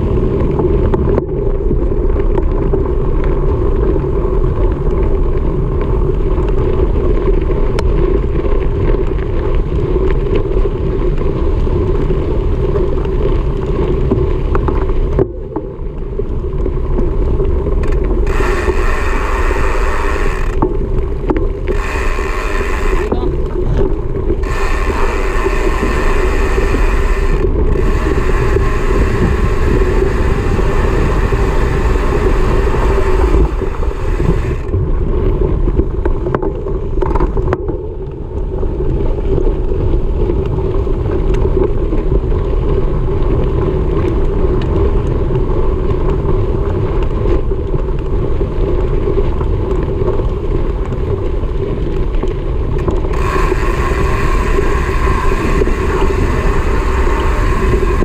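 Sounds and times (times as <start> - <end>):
bike rolling over dirt trail: 0.0 - 58.0
constant hum: 0.0 - 58.0
wind buffeting on camera: 0.0 - 58.0.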